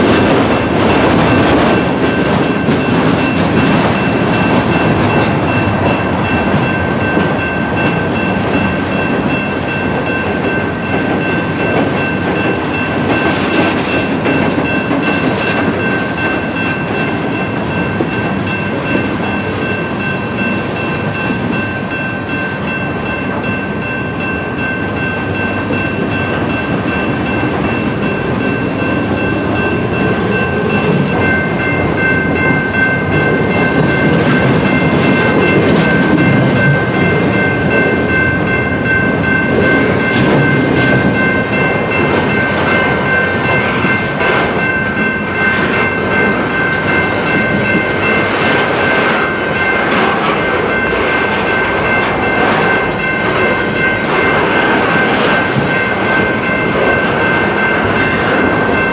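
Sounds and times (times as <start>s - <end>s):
crossing warning bell: 0.0s - 58.9s
train wheels rumbling on rails: 0.0s - 58.9s.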